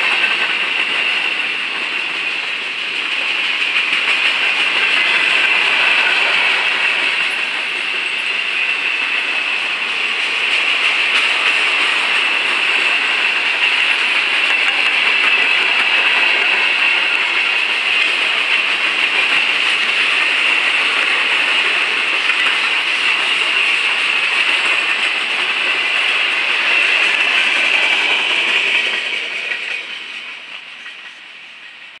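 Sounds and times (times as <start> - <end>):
train wheels rolling on rail: 0.0 - 32.0.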